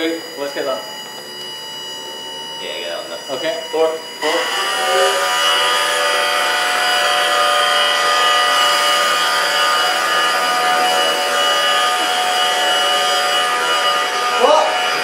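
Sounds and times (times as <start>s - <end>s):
electric fan motors whining: 0.0s - 15.0s.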